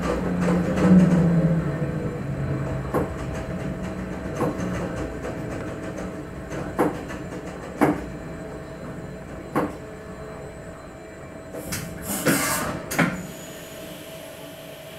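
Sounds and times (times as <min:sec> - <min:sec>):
electric train humming: 0:00.0 - 0:14.9.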